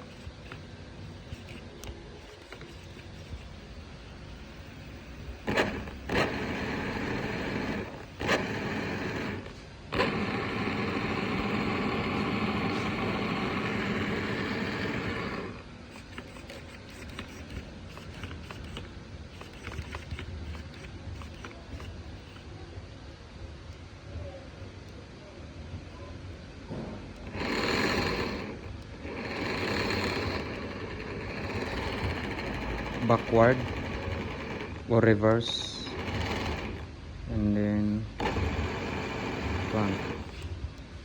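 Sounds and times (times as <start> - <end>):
electric motor and gears whirring: 0.0 - 22.6, 26.7 - 41.0.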